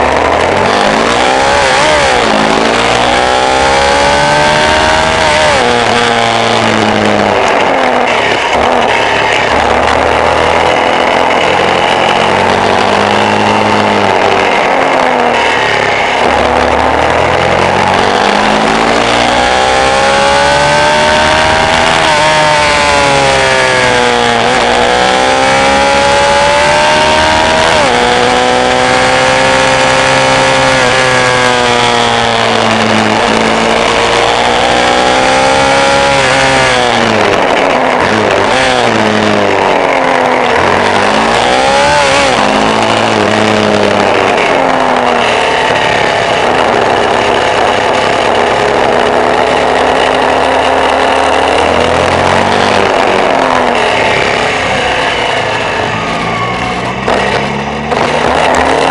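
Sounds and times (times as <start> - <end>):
off-road vehicle engine revving: 0.0 - 58.9.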